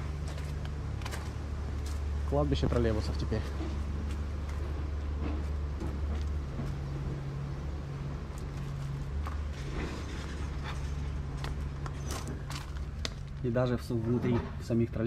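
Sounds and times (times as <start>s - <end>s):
low motor drone: 0.0s - 14.6s.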